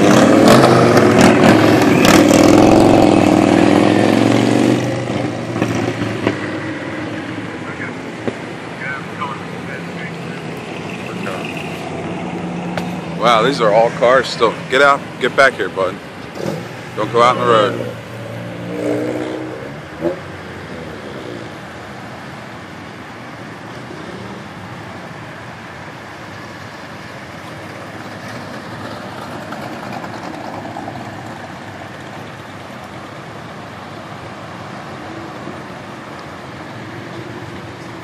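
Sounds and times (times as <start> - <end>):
cars driving past: 0.0 - 38.0.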